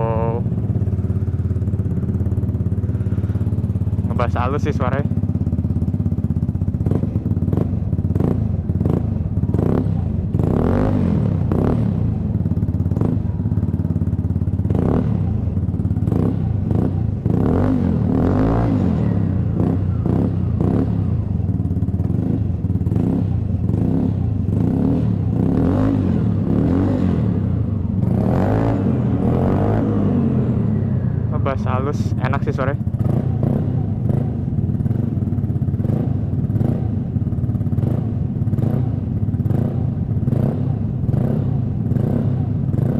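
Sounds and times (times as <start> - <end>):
scooter engine idling with throttle blips: 0.0 - 42.9.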